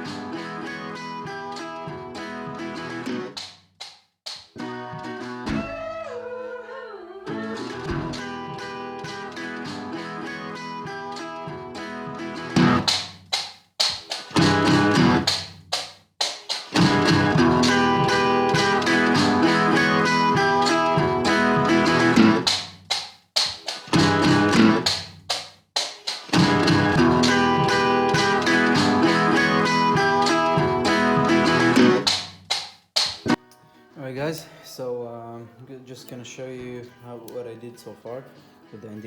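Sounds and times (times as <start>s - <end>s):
guitar background music: 0.0s - 3.4s, 4.6s - 6.4s, 7.3s - 13.0s, 14.0s - 15.4s, 16.7s - 22.6s, 23.6s - 25.1s, 26.0s - 32.3s, 33.1s - 39.0s.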